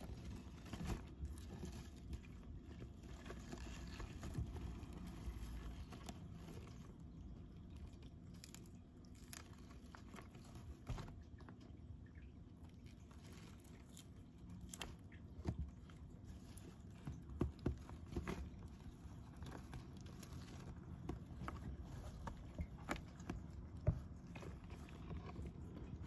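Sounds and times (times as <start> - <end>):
tortoise biting and shuffling: 0.0 - 26.0.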